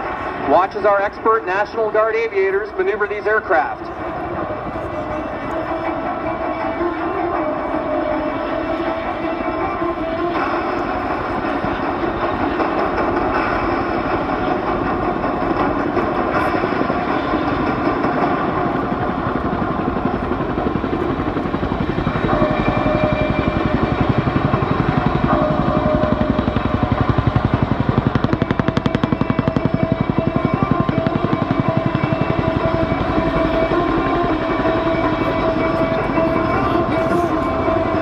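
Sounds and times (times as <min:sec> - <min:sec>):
helicopter rotor beat: 0:00.0 - 0:38.0
helicopter turbine whine: 0:00.0 - 0:38.0.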